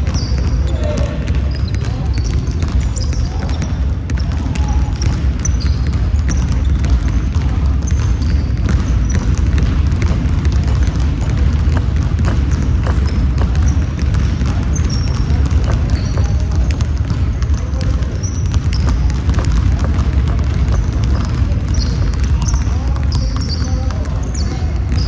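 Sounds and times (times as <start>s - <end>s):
basketball bouncing: 0.0s - 25.0s
sneaker squeaks: 0.0s - 25.0s.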